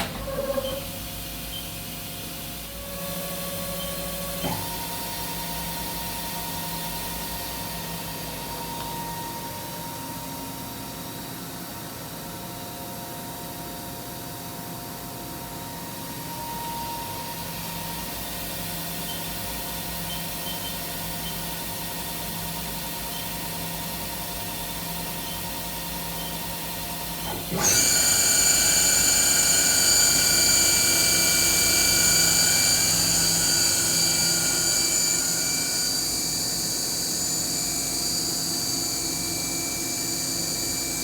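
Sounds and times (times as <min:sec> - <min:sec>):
milling machine whine: 0:00.0 - 0:12.2, 0:15.4 - 0:41.0.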